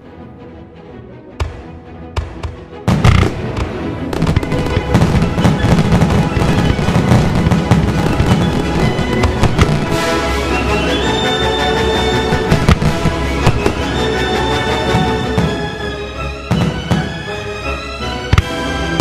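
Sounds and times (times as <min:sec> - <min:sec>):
fireworks bursting and crackling: 0:02.2 - 0:17.4, 0:18.3 - 0:19.0.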